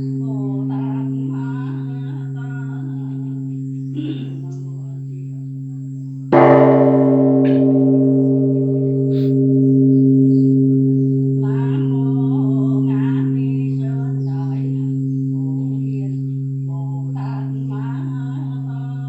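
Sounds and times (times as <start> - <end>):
deep steady hum: 0.0 - 19.0
faint chanting voice: 0.0 - 19.0
large bell ringing: 0.0 - 19.0.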